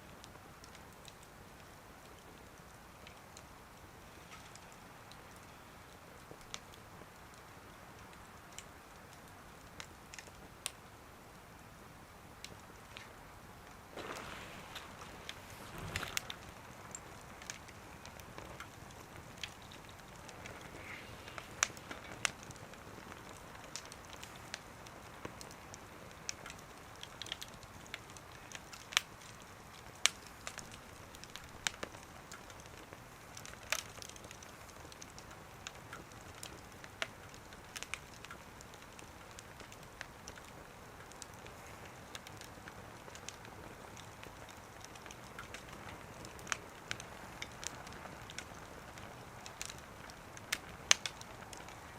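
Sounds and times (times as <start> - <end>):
faint steady hiss: 0.0 - 51.9
wood fire crackling and popping: 0.0 - 51.9.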